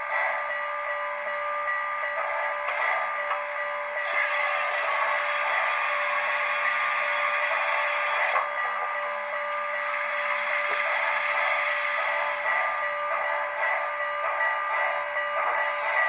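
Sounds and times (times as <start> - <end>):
model locomotive steam hiss: 0.0 - 16.0.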